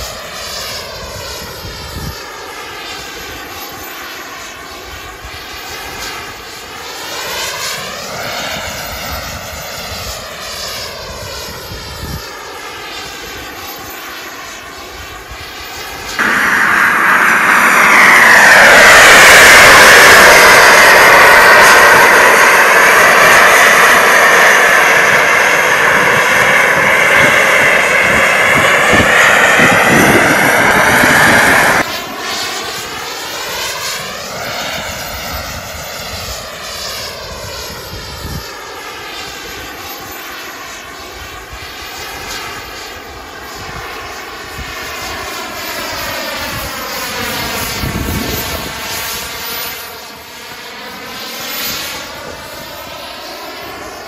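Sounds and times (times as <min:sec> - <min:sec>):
model jet turbine whine: 0:00.0 - 0:54.0.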